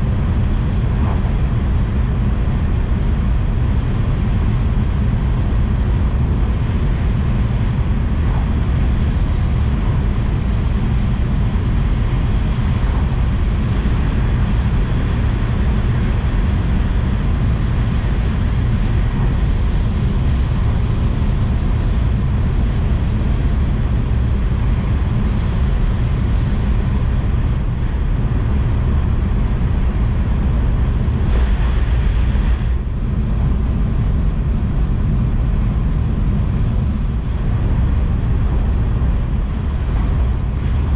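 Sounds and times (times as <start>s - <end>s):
train rumble and hiss: 0.0s - 40.9s.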